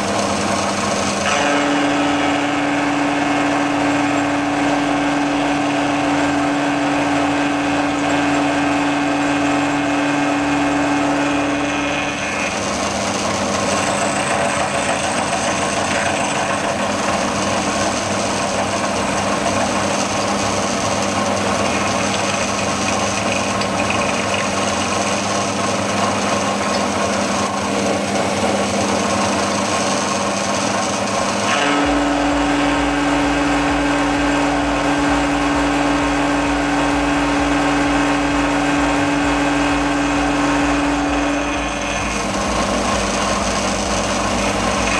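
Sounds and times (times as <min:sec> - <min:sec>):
cutter milling metal: 0:00.0 - 0:44.9
mill-drill hum: 0:00.0 - 0:44.9.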